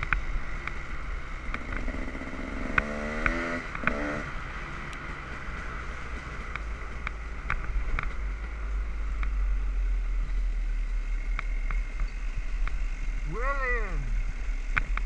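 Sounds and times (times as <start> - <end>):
dirt bike engine rumble: 0.0 - 15.0.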